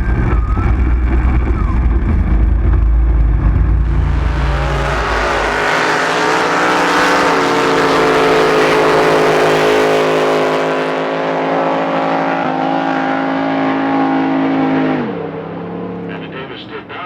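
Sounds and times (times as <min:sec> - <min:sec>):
racing boat engine roaring: 0:00.0 - 0:17.0.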